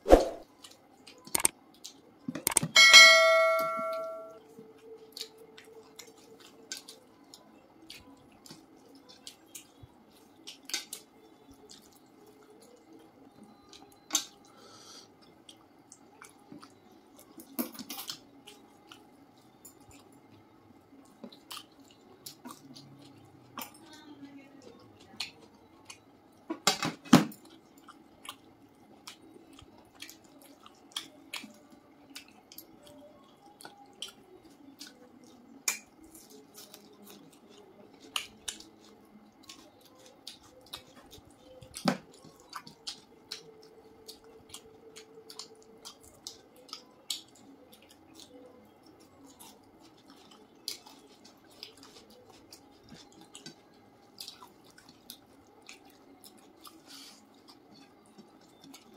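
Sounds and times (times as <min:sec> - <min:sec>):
mouth chewing and smacking: 0:00.5 - 0:02.7, 0:04.6 - 0:26.6, 0:27.4 - 0:58.9.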